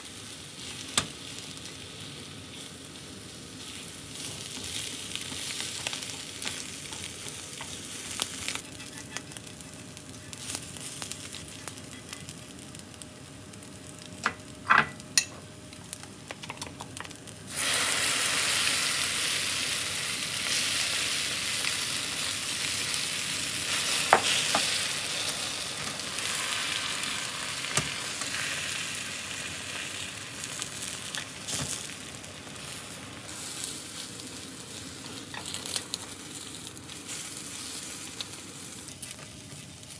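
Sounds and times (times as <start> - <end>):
egg sizzling in pan: 0.0 - 39.9.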